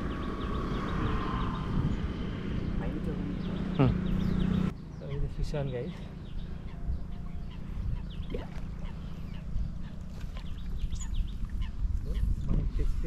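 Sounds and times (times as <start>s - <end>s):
steady low rumble: 0.0s - 13.0s
wild birds chirping: 0.0s - 13.0s.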